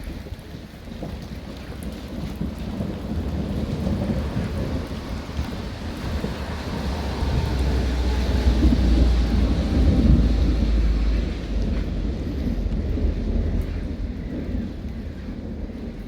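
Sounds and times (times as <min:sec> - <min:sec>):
rain falling: 0:00.0 - 0:16.0
rolling thunder rumbling: 0:00.0 - 0:16.0.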